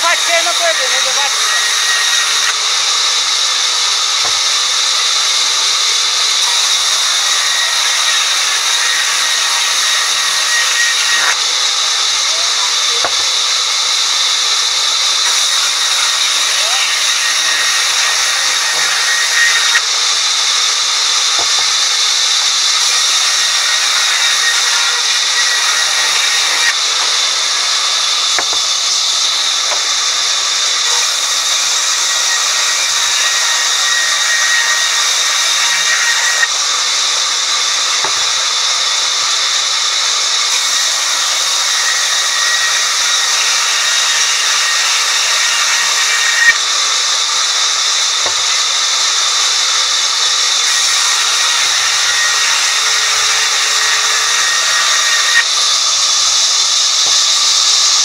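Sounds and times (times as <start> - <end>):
sawmill saw cutting wood: 0.0 - 58.0.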